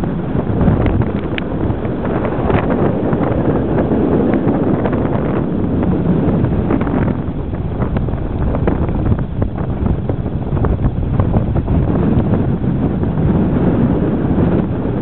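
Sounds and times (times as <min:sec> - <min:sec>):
sea water rushing along hull: 0:00.0 - 0:15.0
wind buffeting microphone: 0:00.0 - 0:15.0.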